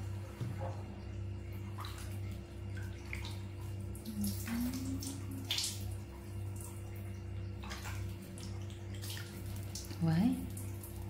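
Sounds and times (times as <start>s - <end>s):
steady low hum: 0.0s - 11.0s
water splashing and dripping: 0.0s - 11.0s.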